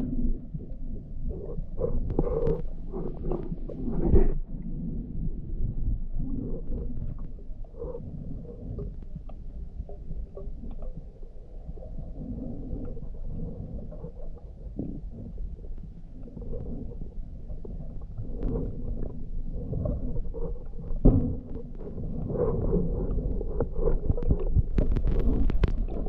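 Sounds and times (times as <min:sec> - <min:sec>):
underwater rumble of moving water: 0:00.0 - 0:26.0.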